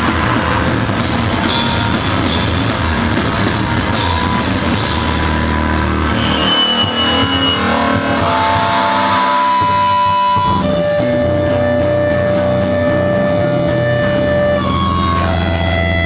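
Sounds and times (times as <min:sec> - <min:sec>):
distorted amp drone: 0:00.0 - 0:16.0
guitar feedback tones: 0:00.0 - 0:16.0.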